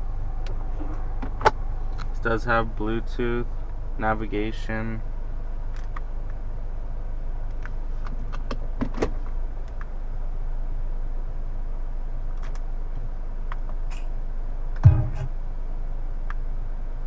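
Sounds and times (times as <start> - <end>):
low hum inside car: 0.0 - 17.0.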